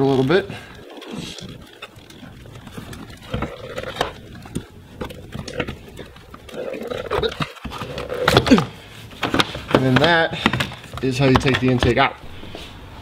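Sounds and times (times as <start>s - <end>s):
plastic duct knocking and rubbing: 0.0s - 12.2s.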